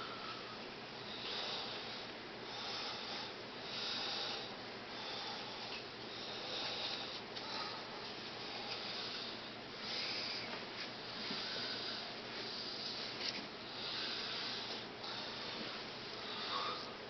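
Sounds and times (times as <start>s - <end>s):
person breathing close to microphone: 0.0s - 17.0s
steady hiss: 0.0s - 17.0s.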